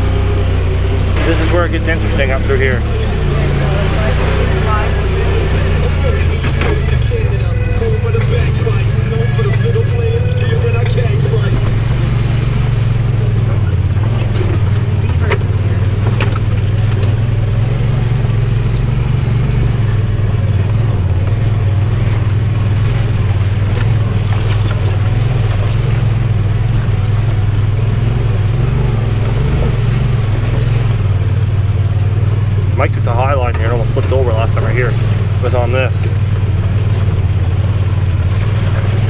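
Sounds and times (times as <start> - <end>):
utv engine running: 0.0 - 39.0.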